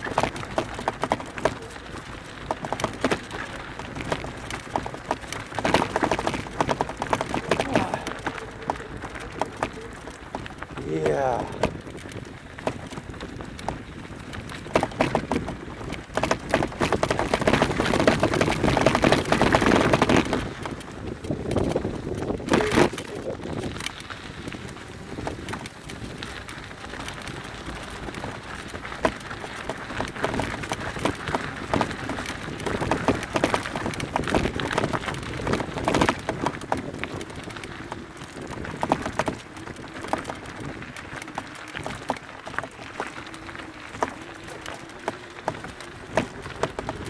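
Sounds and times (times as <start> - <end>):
bike rattling: 0.0 - 47.0
bike tyres crunching on gravel: 0.0 - 47.0.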